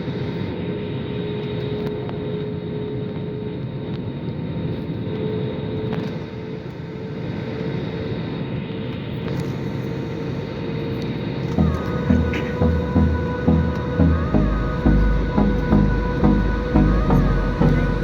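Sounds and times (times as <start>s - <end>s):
airliner cabin engine drone: 0.0s - 18.0s.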